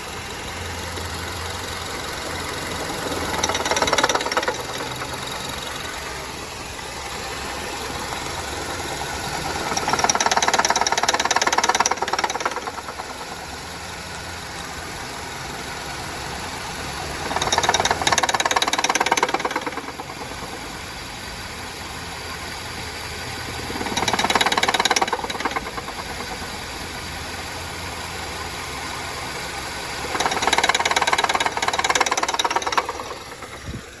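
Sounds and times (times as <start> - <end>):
car engine knocking and rattling: 0.0 - 34.0.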